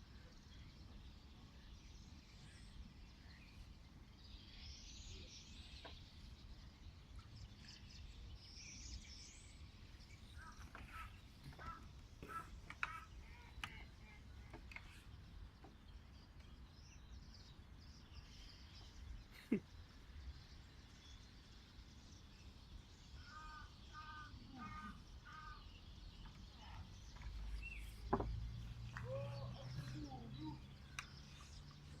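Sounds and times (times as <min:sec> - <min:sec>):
birds calling: 0:04.5 - 0:32.0.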